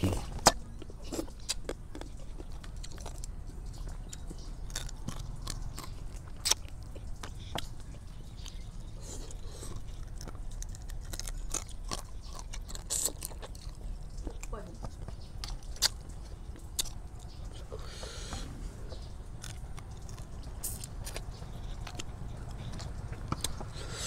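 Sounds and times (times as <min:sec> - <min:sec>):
crab shells crackling: 0:00.0 - 0:18.2, 0:18.9 - 0:24.0
chewing and crunching: 0:00.0 - 0:24.0
wet mouth sounds: 0:00.0 - 0:24.0.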